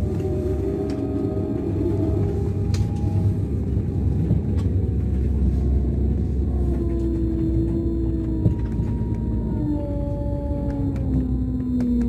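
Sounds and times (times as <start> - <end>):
diesel engine rumble with whine: 0.0 - 12.0.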